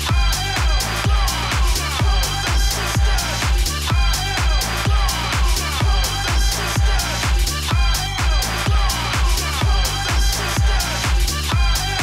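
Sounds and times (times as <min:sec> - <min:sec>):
house dance music: 0:00.0 - 0:12.0
steady kick drum: 0:00.0 - 0:12.0.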